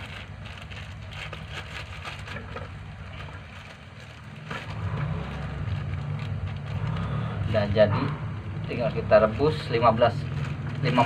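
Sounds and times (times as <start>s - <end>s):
low steady rumble: 0.0s - 11.0s
plastic bag crinkling: 0.0s - 11.0s.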